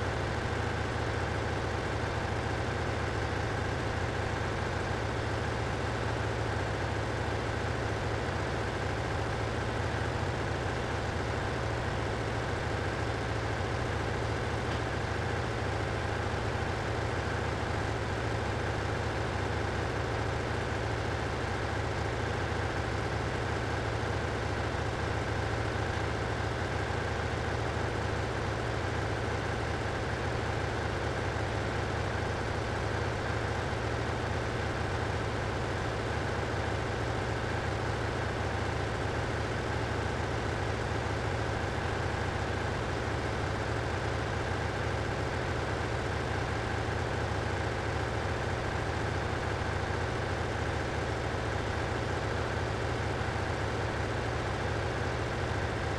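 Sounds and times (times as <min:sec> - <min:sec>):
engine room machinery hum: 0:00.0 - 0:55.9.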